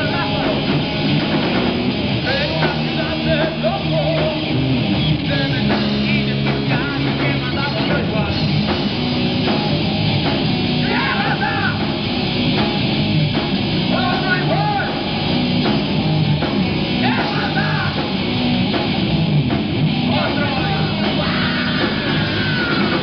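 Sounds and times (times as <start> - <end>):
bass guitar: 0.0 - 23.0
drum kit: 0.0 - 23.0
electric guitars: 0.0 - 23.0.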